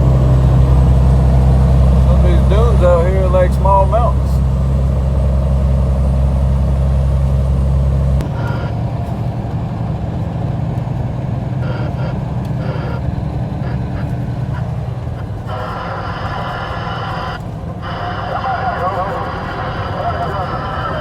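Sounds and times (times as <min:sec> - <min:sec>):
heavy truck engine running: 0:00.0 - 0:21.0.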